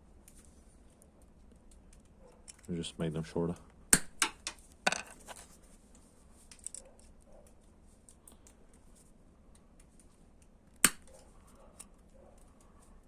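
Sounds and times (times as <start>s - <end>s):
faint clicks and handling: 0.2s - 2.9s, 4.5s - 13.0s.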